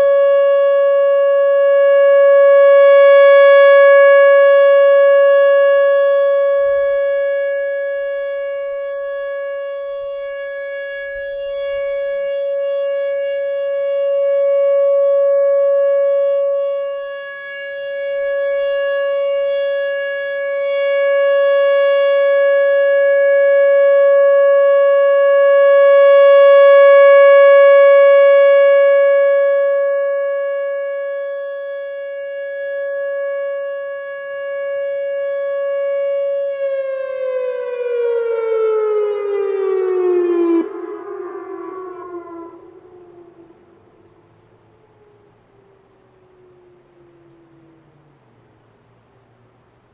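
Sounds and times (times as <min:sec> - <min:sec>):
electronic warning siren tone: 0:00.0 - 0:49.0.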